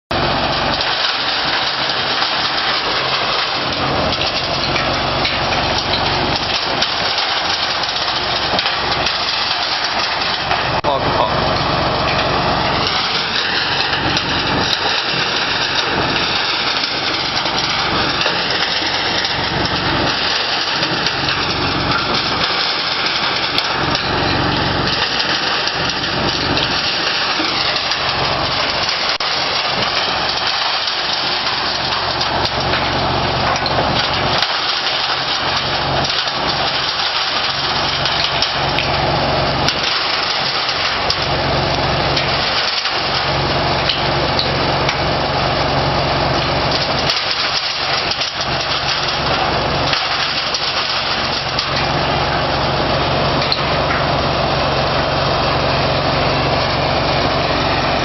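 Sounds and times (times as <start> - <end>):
grass cutter machine running: 0.1 - 58.0.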